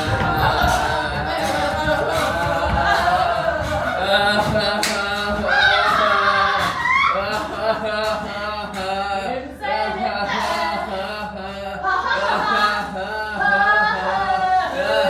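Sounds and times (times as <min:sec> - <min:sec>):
person singing wordlessly: 0:00.0 - 0:15.0.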